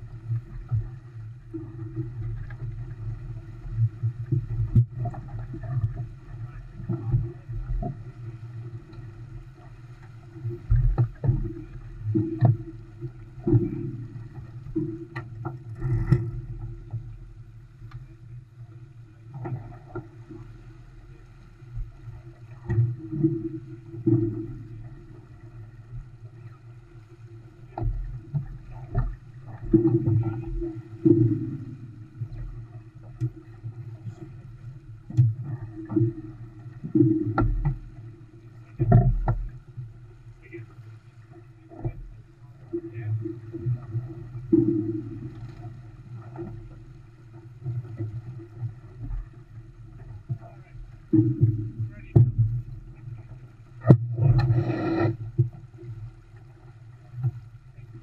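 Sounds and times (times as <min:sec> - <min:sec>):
wind and water rushing past hull: 0:00.0 - 0:58.0.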